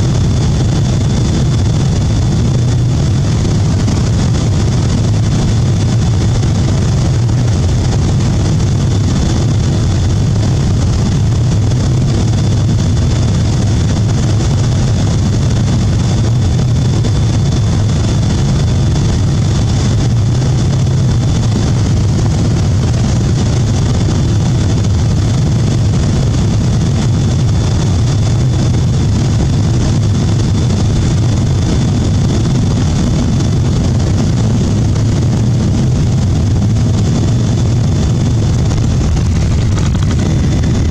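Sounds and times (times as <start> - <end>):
engine and airflow rumble: 0.0 - 40.9.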